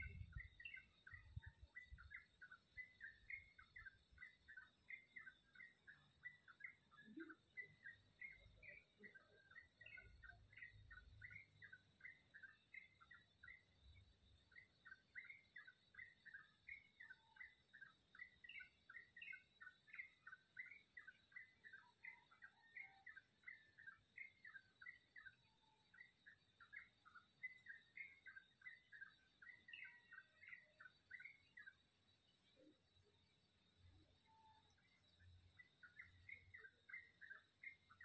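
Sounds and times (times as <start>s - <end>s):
bird chirping: 0.0s - 38.0s.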